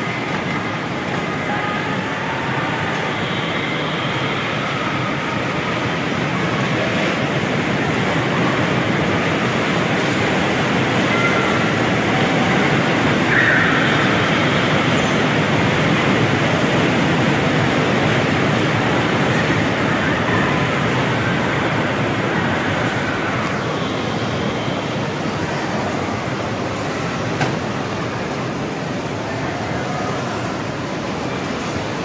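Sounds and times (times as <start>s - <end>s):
bumper cars running: 0.0s - 32.0s
hubbub of amusement hall: 0.0s - 32.0s.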